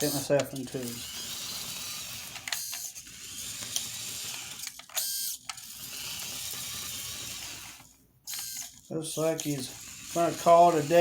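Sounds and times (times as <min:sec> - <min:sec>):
toy tractor motor whining: 0:00.0 - 0:11.0
motor buzzes: 0:00.9 - 0:08.7, 0:09.4 - 0:11.0.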